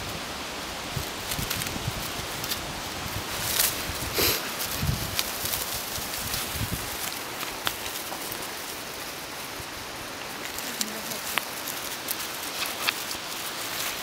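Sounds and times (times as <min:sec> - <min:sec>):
dry leaves crackling underfoot: 0:00.1 - 0:14.0.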